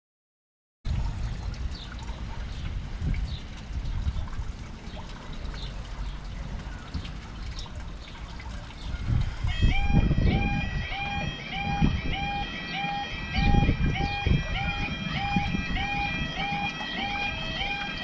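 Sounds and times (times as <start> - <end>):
wind buffeting microphone: 0.9 - 18.0.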